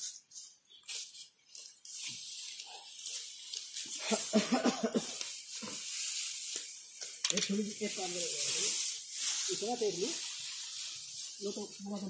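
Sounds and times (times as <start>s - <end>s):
dry straw rustling and crackling: 0.0s - 12.0s.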